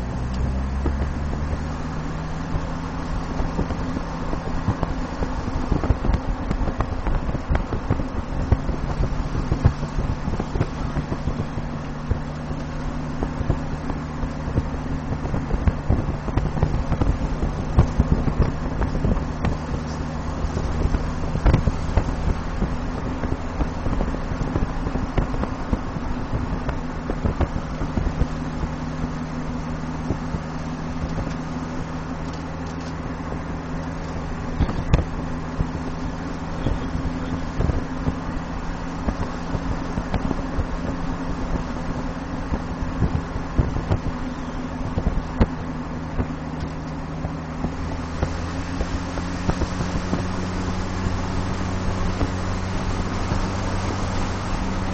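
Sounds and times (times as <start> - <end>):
car engine hum: 0.0 - 54.9
low road rumble: 0.0 - 54.9.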